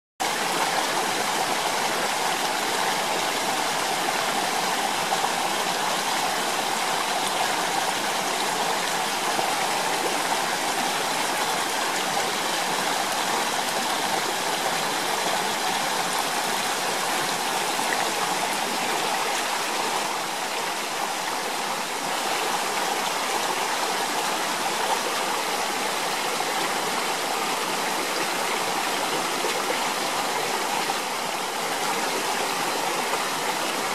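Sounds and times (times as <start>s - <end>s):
stream water running: 0.2s - 33.9s.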